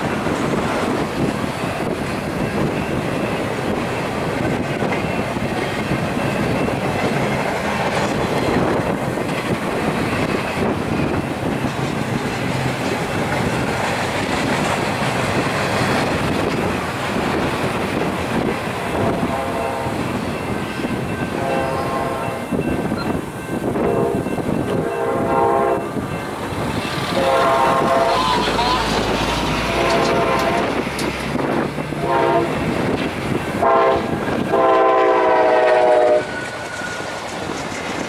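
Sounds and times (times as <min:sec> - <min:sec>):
freight train rolling past: 0:00.0 - 0:38.0
wind on the microphone: 0:00.0 - 0:38.0.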